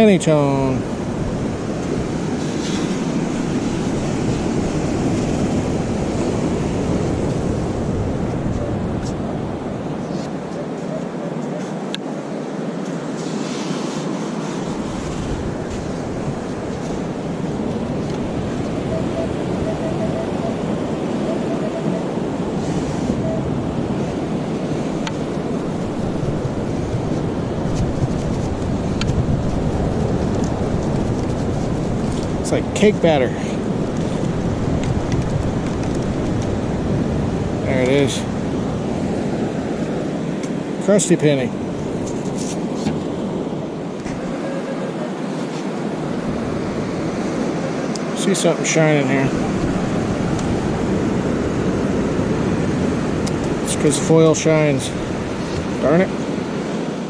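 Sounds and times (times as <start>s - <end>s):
surf rushing: 0.0s - 57.0s
wind on microphone: 0.6s - 48.2s, 48.8s - 57.0s.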